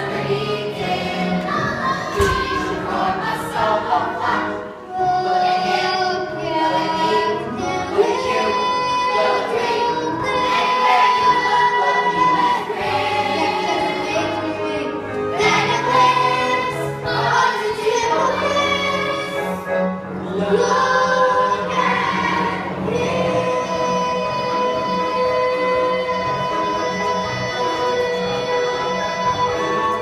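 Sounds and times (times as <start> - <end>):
chorus singing: 0.0 - 30.0
instrumental accompaniment: 0.0 - 30.0.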